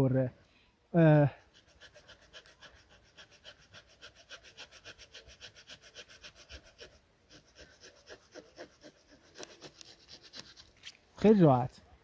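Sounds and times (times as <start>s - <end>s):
knife saw cutting branch: 1.5s - 11.5s.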